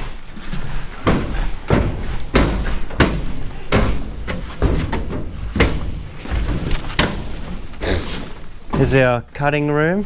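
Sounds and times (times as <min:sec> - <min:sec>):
footsteps on metal stairs: 0:00.0 - 0:09.2.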